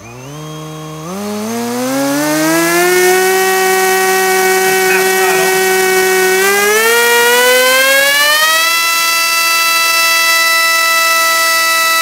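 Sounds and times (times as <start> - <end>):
brushless motor propeller whine: 0.0 - 12.0.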